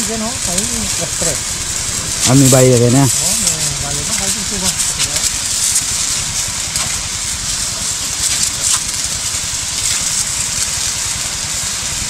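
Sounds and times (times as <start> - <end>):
small engine running: 0.0 - 12.0
water jet hissing: 0.0 - 12.0.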